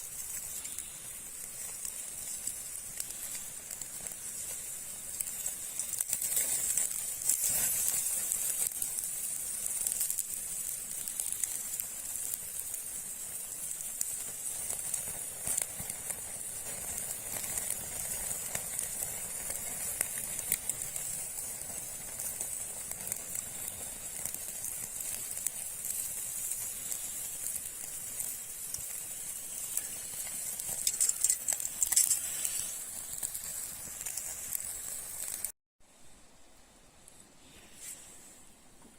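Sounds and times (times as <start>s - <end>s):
food sizzling over fire: 0.0s - 35.6s.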